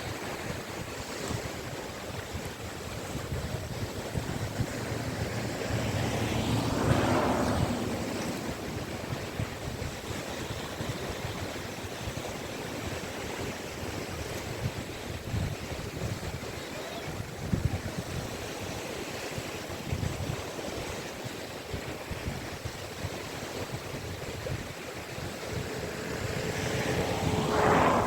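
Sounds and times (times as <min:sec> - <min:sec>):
sea waves on a beach: 0:00.0 - 0:28.0.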